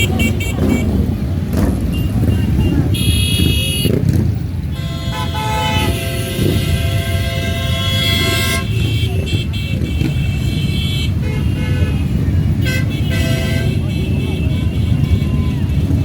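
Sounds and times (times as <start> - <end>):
motorcycle engines rumbling: 0.0 - 16.0
motorcycle horns honking: 0.0 - 16.0.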